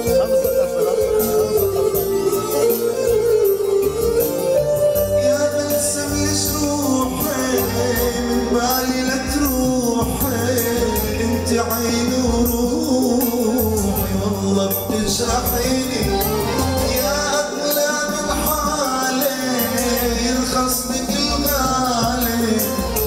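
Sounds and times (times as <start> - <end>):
electronic keyboard: 0.0 - 23.0
man singing into a microphone: 0.0 - 23.0
programmed drum beat: 0.0 - 23.0.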